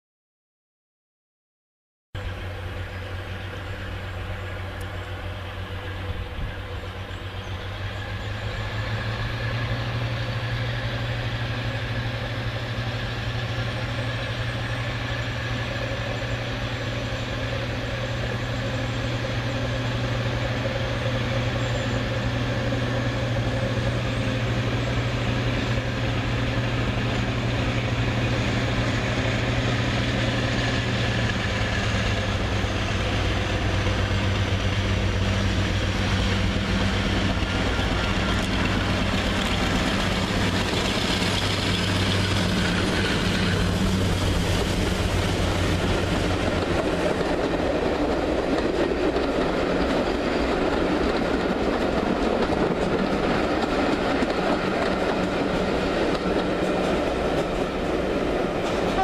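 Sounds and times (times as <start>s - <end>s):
diesel locomotive engine drone: 2.2s - 59.0s.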